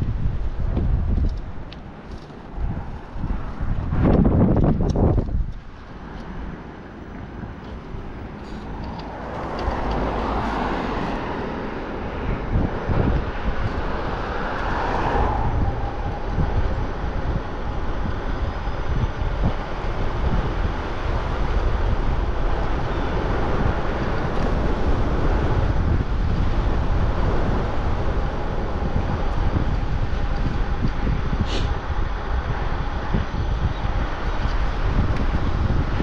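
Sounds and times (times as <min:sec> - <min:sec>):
bike road rumble: 0:00.0 - 0:36.0
wind buffeting microphone: 0:00.0 - 0:36.0.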